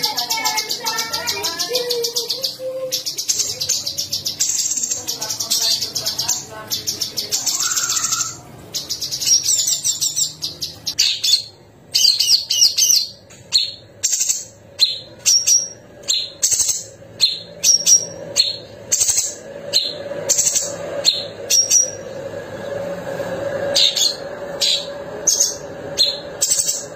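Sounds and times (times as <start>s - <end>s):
bird singing shrill trills: 0.0s - 22.7s, 23.7s - 26.9s.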